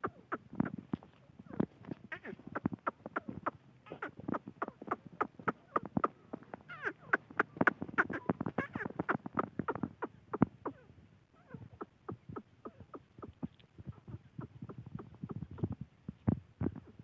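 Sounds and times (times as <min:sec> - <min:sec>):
bird chirps: 0:00.0 - 0:16.2
bird clucking: 0:00.0 - 0:17.0.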